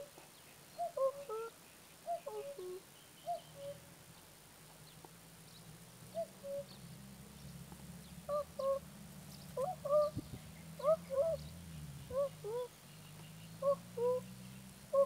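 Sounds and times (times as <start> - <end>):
cuckoo calling: 0.0 - 3.9, 6.0 - 15.0.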